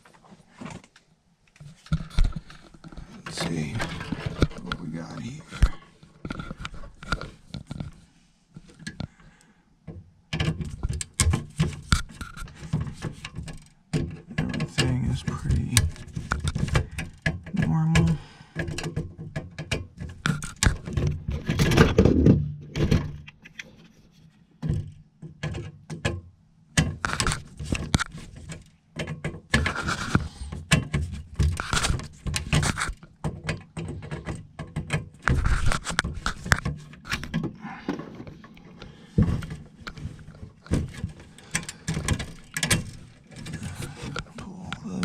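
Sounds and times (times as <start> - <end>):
plastic clicks and knocks: 0.6 - 8.0, 9.8 - 23.7, 24.6 - 44.5.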